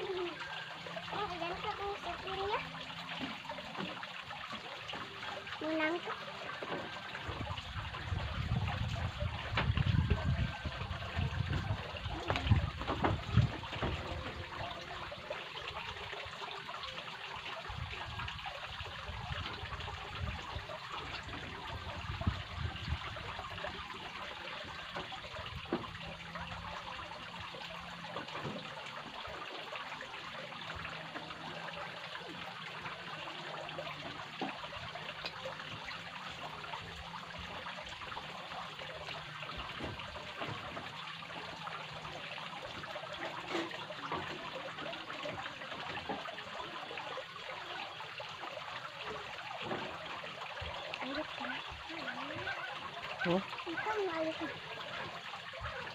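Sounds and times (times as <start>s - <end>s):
water trickling: 0.0s - 55.9s.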